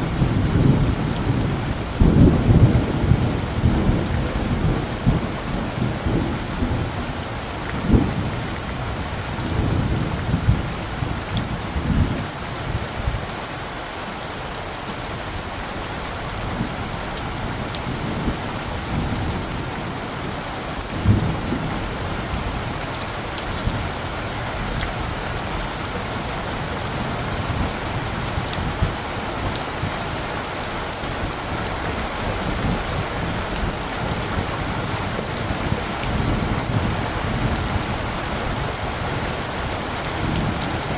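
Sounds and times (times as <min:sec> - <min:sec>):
thunder rumbling: 0:00.0 - 0:13.3, 0:16.2 - 0:40.9
rain falling: 0:00.0 - 0:40.9.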